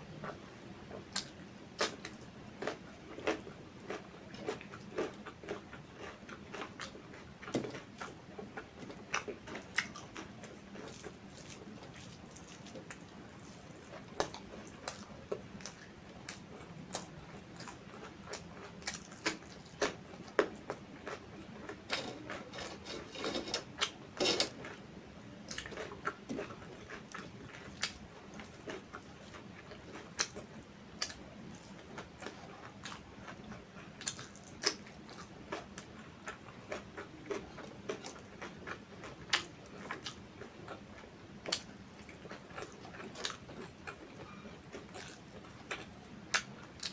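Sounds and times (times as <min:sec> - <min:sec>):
mouth chewing food: 0:00.2 - 0:24.8, 0:25.5 - 0:46.9.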